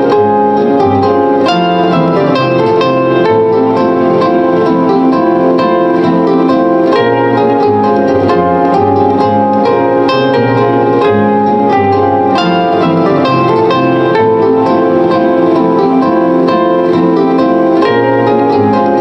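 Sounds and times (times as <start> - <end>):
plucked string instrument music: 0.0 - 19.0.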